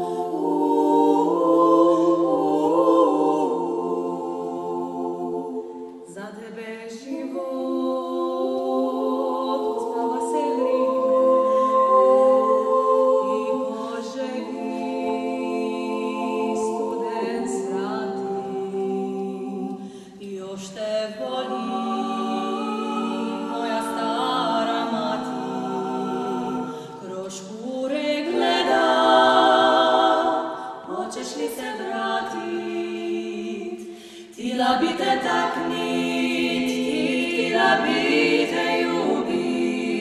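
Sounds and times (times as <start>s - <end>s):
women singing in harmony: 0.0s - 40.0s.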